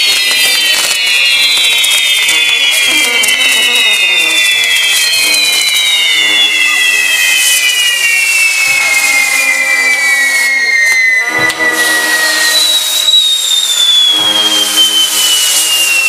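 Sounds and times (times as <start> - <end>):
fireworks crackling: 0.0 - 16.0
whistling fireworks: 0.0 - 16.0.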